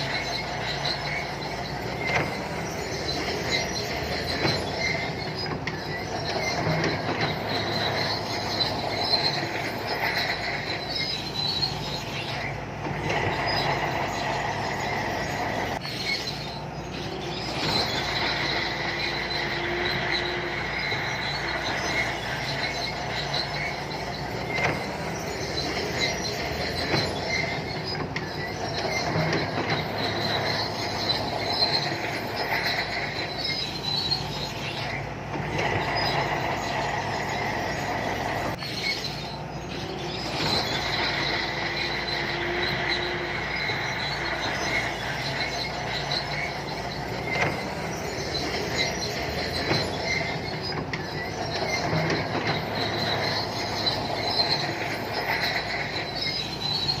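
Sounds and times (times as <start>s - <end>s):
bulldozer diesel engine running: 0.0s - 57.0s
steel tracks squealing and clanking: 0.0s - 57.0s.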